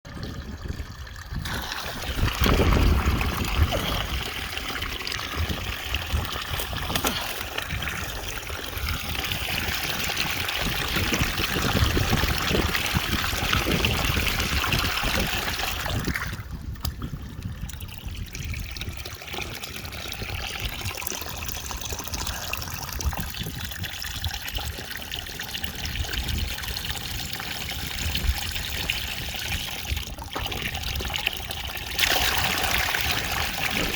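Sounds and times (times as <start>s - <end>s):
water pouring through a drain: 0.0s - 33.9s.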